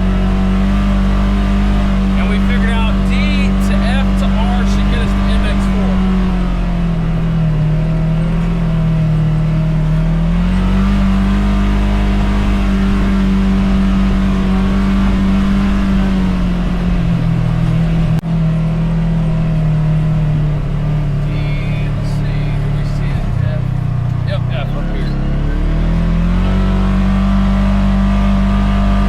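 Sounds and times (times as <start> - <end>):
utility vehicle engine running: 0.0 - 29.0.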